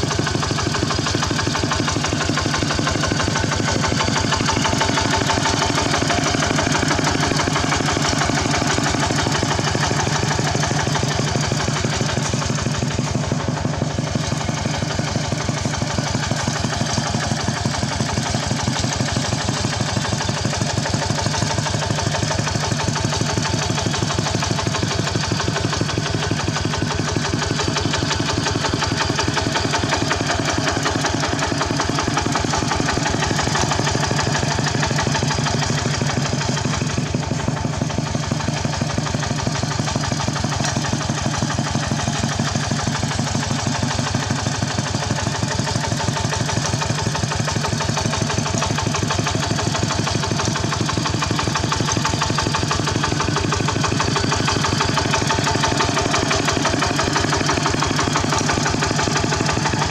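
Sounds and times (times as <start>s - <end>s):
tractor engine chugging: 0.0s - 59.9s.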